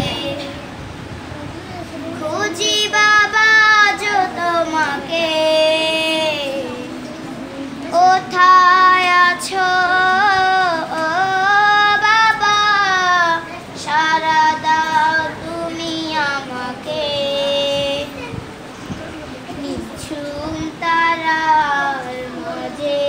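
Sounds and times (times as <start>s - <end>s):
child singing: 0.0s - 0.8s, 1.7s - 7.0s, 7.8s - 18.4s, 19.5s - 23.0s.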